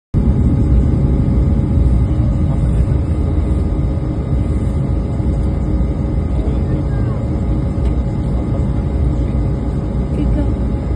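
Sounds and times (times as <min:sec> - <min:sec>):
airliner cabin rumble: 0:00.2 - 0:10.9
faint steady hum: 0:00.2 - 0:10.9.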